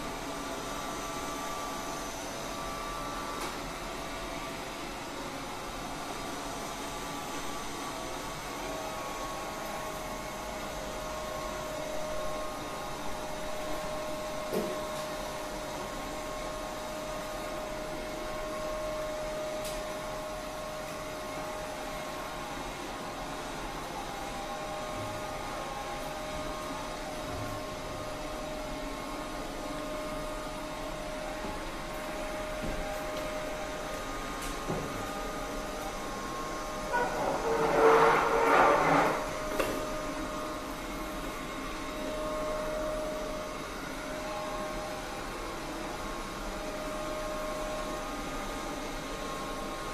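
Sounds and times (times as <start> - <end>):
robot vacuum cleaner running: 0.0 - 49.9.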